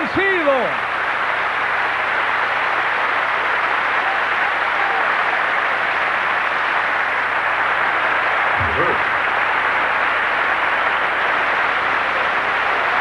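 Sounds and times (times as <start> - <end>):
congregation applauding: 0.0 - 13.0.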